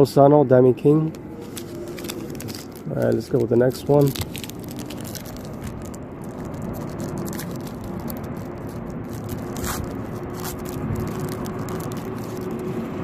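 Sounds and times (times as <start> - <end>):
low background hum and rumble: 0.0 - 13.0
wrapper scraping and crinkling: 1.3 - 13.0
sharp crackles: 1.4 - 12.9
foil pack tearing: 1.4 - 13.0.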